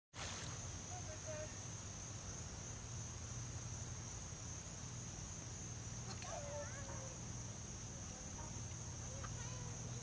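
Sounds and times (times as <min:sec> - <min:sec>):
insects buzzing: 0:00.2 - 0:10.0
pulsing high insect call: 0:00.2 - 0:10.0.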